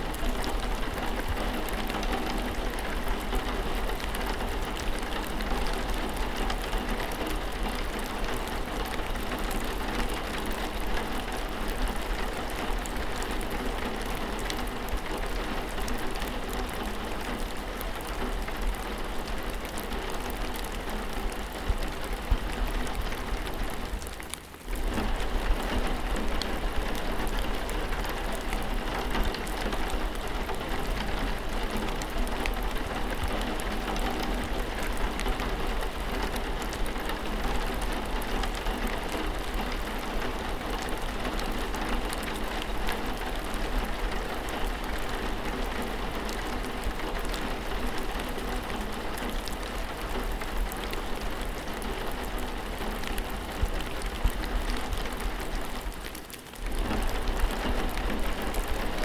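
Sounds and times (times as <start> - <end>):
raindrops ticking: 0.0 - 59.0
steady rain hiss: 0.0 - 59.0.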